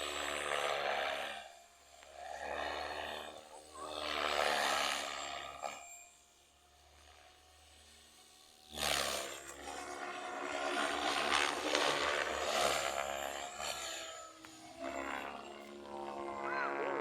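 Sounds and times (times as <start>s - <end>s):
model helicopter rotor whining: 0.0s - 17.0s.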